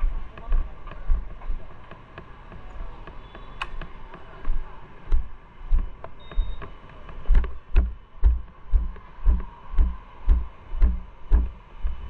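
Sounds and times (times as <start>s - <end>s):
footsteps on concrete: 0.0s - 6.0s, 7.2s - 12.0s.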